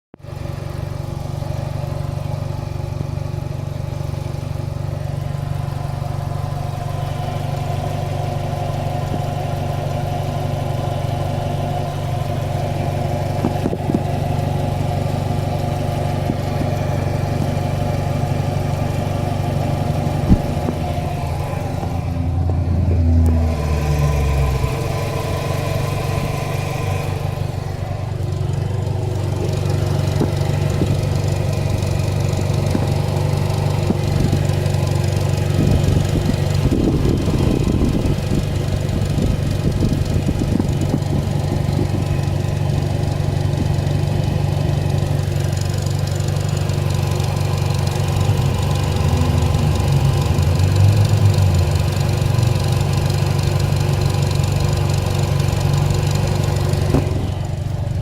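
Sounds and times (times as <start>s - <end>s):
car engine idling: 0.1s - 58.0s
metallic engine ticking: 3.6s - 58.0s.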